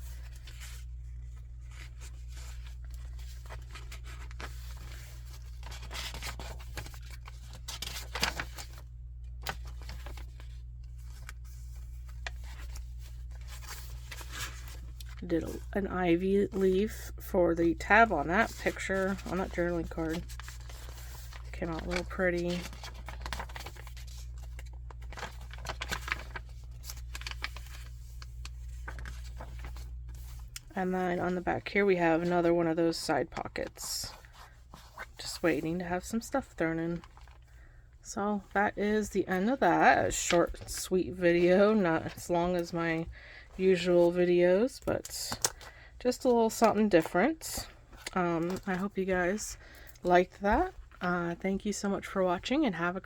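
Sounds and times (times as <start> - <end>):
paper pages rustling and crinkling: 0.0 - 37.8, 38.4 - 52.5.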